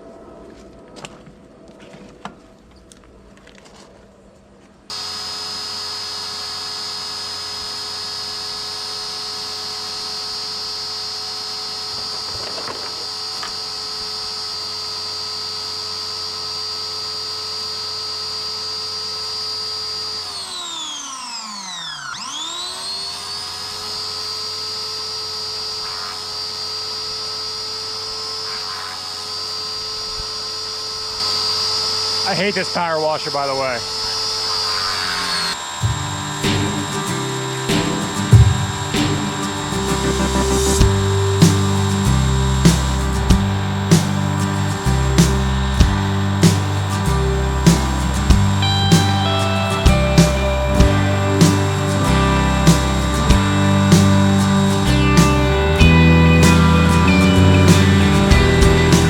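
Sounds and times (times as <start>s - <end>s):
pressure washer motor whining: 4.9s - 59.0s.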